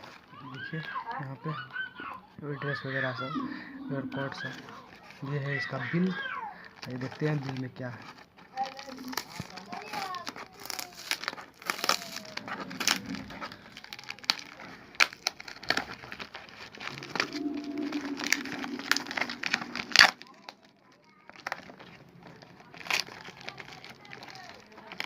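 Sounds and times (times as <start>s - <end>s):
packaging crinkling and rustling: 0.0s - 1.9s, 4.5s - 25.0s.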